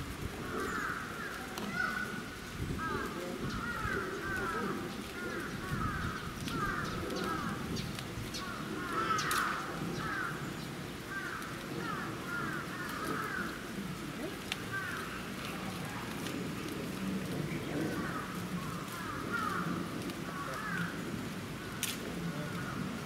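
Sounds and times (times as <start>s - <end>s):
low murmur: 0.0s - 23.0s.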